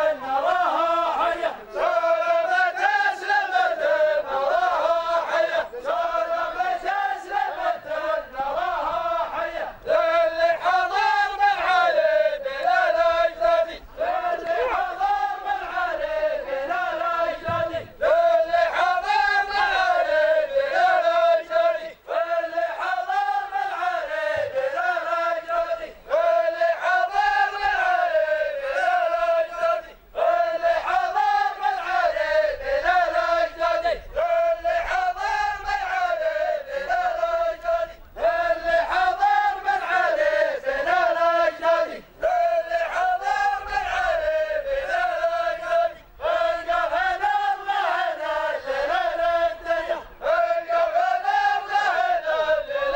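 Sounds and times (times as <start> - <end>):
men chanting in unison: 0.0 - 52.9.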